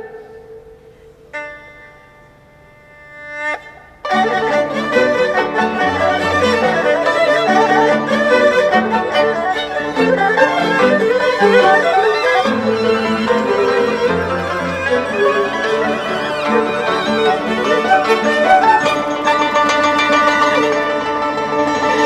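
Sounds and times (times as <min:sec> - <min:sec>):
bowed strings playing melody: 0:00.0 - 0:22.0.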